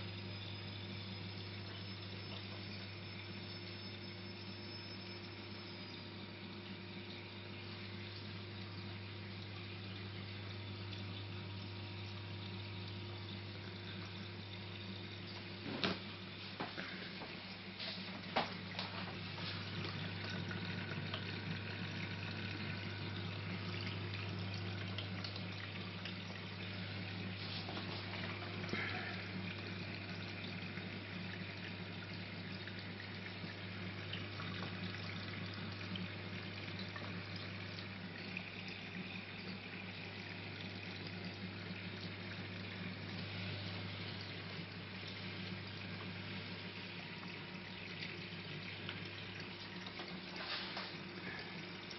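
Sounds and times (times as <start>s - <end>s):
pump hum: 0.0s - 51.9s
water trickling and splashing: 0.0s - 51.9s.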